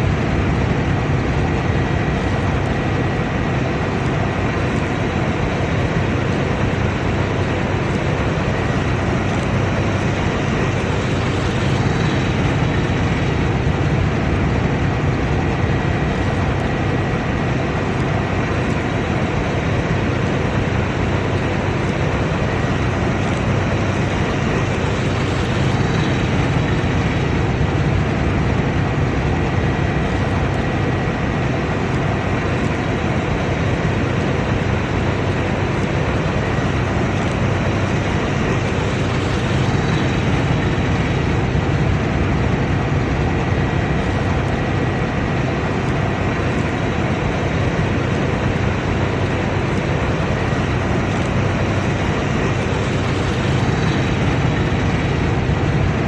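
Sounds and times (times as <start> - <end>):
combine harvester drone: 0.0 - 56.0.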